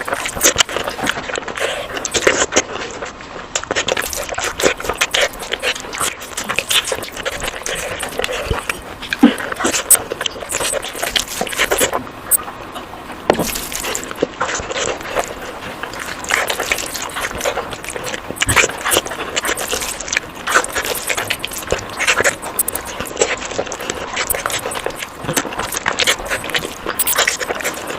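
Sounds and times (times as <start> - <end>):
wet chewing and lip smacking: 0.0 - 27.9.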